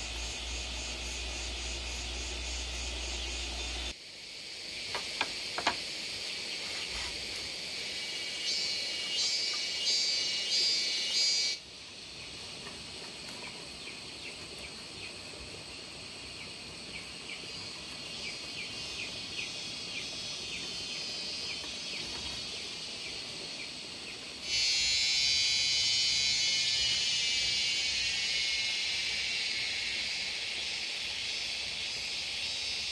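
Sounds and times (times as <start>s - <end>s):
high-pitched insect drone: 0.0s - 12.6s, 15.7s - 32.9s
insects chirping chorus: 0.0s - 32.9s.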